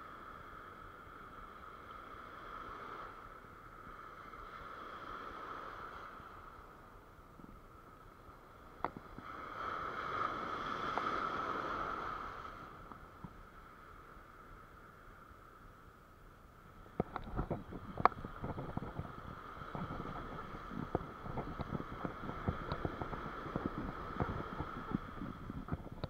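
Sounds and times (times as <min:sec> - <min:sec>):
waves washing on a beach: 0:00.0 - 0:26.0.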